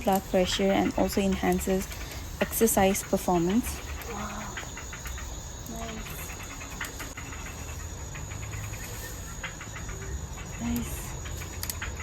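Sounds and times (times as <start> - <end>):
high-pitched insect whine: 0.0 - 12.0
insects chirping in pulses: 0.0 - 12.0.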